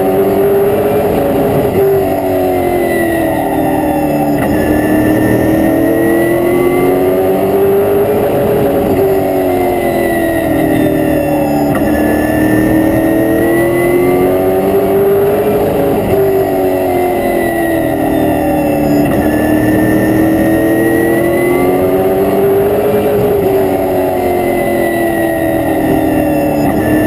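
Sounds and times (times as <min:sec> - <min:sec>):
race car engine revving: 0:00.0 - 0:27.0.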